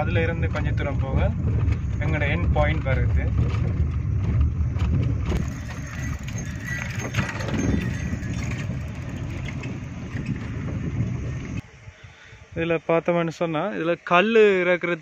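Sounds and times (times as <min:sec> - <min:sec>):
car engine rumble and road noise: 0:00.0 - 0:14.2.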